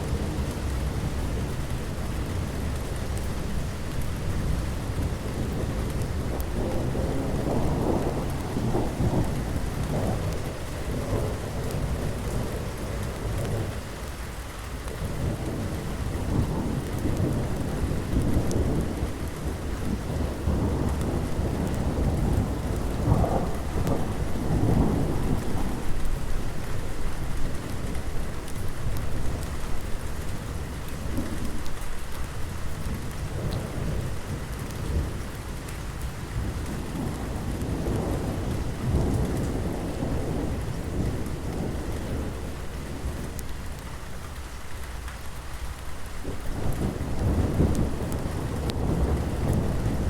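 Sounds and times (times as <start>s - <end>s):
low rolls of thunder: 0.0s - 14.1s, 14.8s - 45.0s, 45.7s - 50.0s
steady rain falling: 0.0s - 50.0s.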